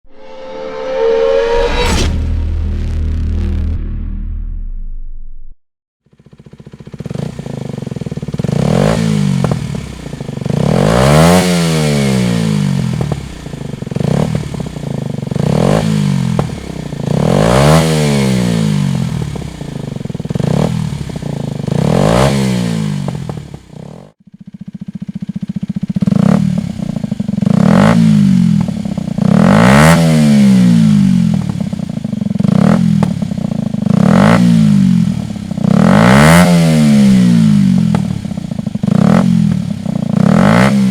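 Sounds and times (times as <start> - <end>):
motorcycle engine revving: 6.1 - 40.9.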